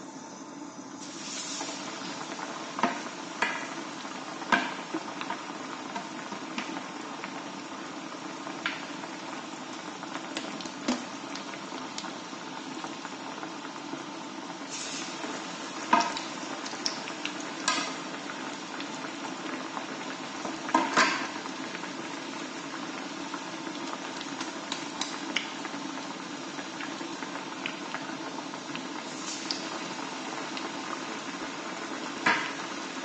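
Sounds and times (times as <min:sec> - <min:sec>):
oil sizzling and bubbling: 0:00.0 - 0:33.0.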